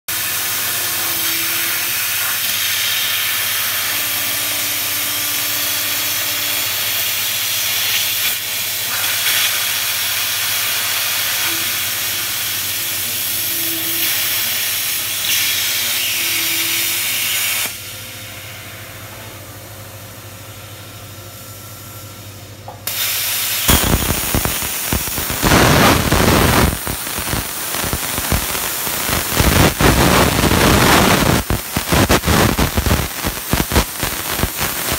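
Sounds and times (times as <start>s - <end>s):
plasma torch arc hissing: 0.1s - 18.0s, 22.8s - 34.9s.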